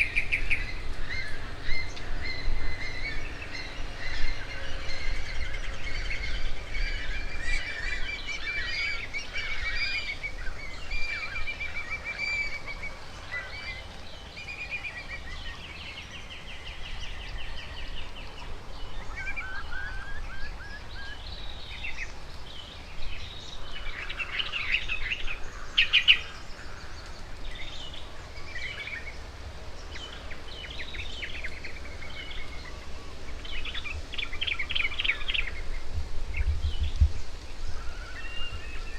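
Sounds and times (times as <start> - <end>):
wild birds singing: 0.0 - 38.9.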